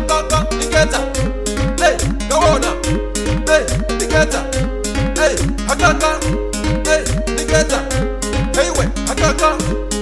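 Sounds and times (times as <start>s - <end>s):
steady drum beat: 0.0s - 9.8s
african dance music: 0.0s - 10.0s
sliding bass notes: 0.0s - 10.0s.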